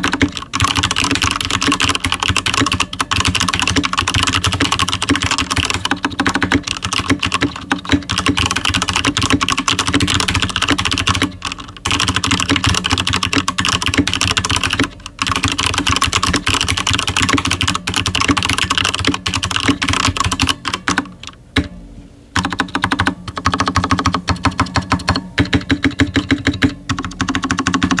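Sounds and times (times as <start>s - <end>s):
mechanical keyboard typing: 0.0s - 21.7s, 22.4s - 28.0s.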